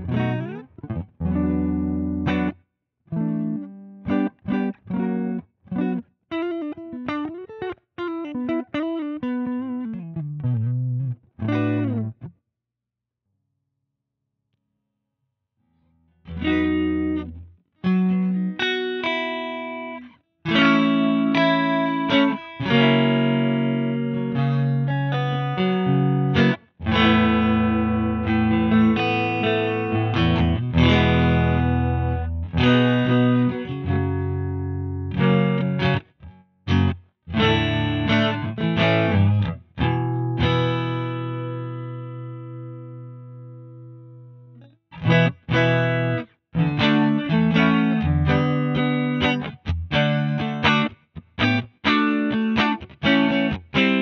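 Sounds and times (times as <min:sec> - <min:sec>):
electric guitar strumming chords: 0:00.0 - 0:12.3, 0:16.3 - 0:54.0.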